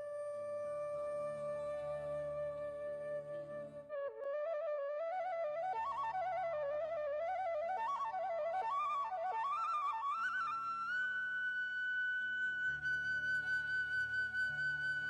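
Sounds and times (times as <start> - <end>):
flute-like melody: 0.0 - 15.0.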